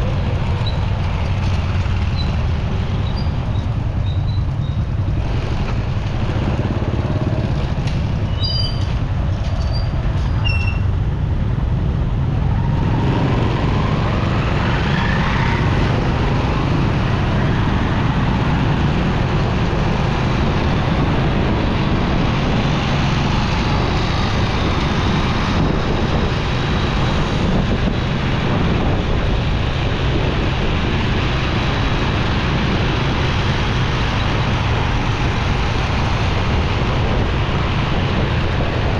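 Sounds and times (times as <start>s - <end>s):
motorcycle engine: 0.0s - 38.9s
road traffic: 0.0s - 38.9s.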